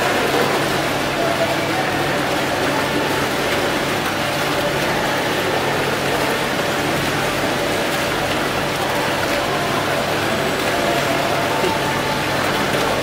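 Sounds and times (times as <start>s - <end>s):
fountain water splashing into basin: 0.0s - 13.0s.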